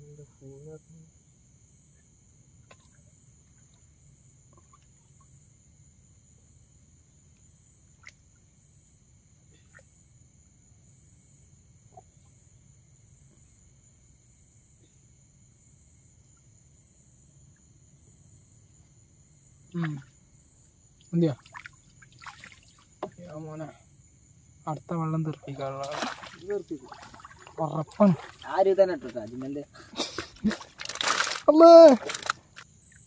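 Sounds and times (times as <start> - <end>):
insect chorus trilling: 0.0 - 33.0.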